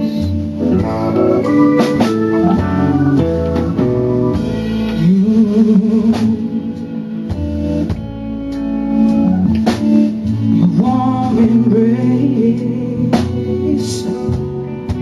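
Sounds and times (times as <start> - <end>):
soul-blues song with organ and drums: 0.0 - 15.0.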